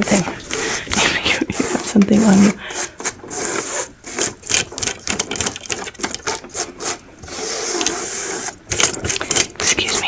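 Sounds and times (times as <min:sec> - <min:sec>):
object scratching and clicking: 0:00.0 - 0:10.0
rubbing rustle: 0:00.0 - 0:10.0.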